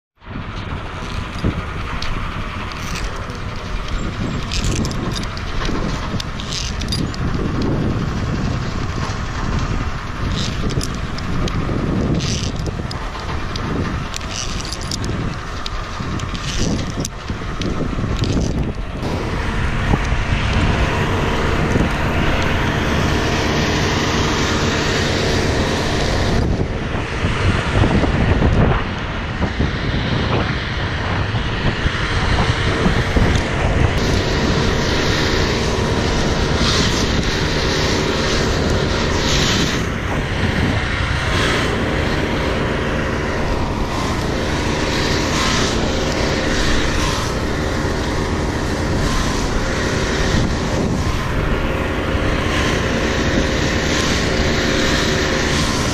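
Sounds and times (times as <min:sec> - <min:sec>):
small engine droning: 0:00.2 - 0:55.9.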